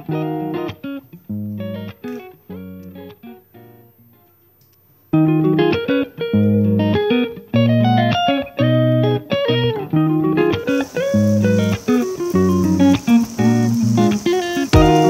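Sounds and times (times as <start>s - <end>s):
plucked guitar music: 0.0s - 4.4s, 5.1s - 15.0s.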